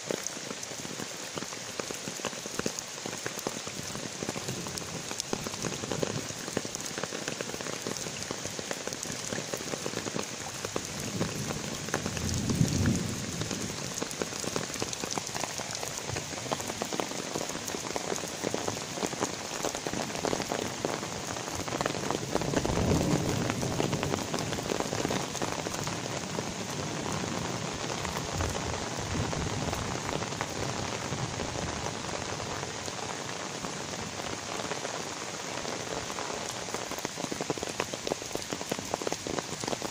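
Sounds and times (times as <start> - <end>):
rain on wet pavement: 0.0 - 39.9.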